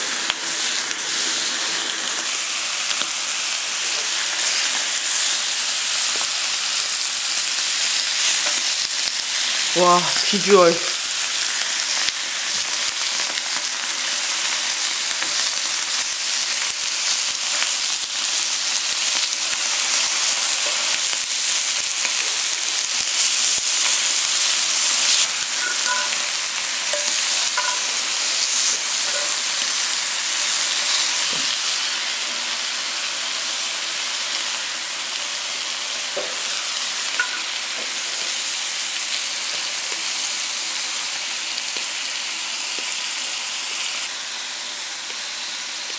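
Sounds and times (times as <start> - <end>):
beef sizzling on grill pan: 0.0 - 45.9.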